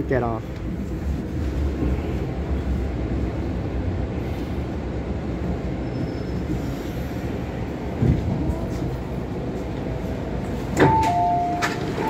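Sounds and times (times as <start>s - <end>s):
train wheels and motors running: 0.0s - 12.0s.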